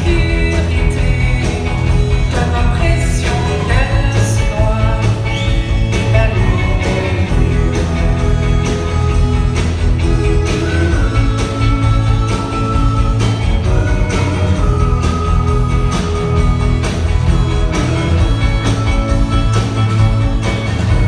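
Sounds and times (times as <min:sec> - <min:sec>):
person singing: 0:00.0 - 0:19.1
live rock band playing: 0:00.0 - 0:21.0.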